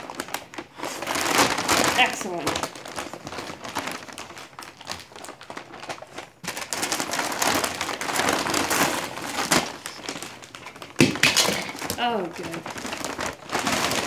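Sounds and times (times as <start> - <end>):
wrapping paper crinkling: 0.0 - 14.0.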